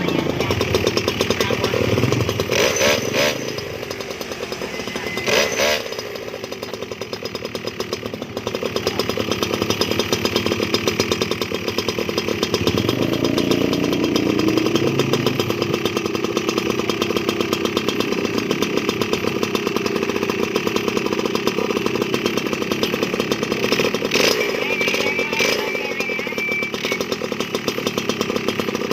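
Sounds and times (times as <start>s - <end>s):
small engine pulsing: 0.0s - 28.9s.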